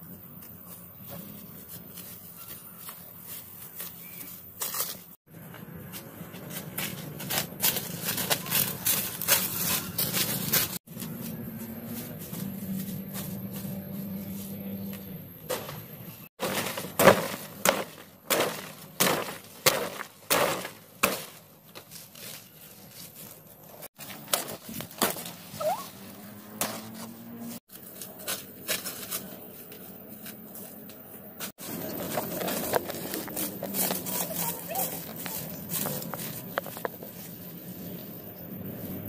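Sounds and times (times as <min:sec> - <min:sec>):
footsteps crunching on dry leaves: 0:00.1 - 0:15.1, 0:16.4 - 0:38.4.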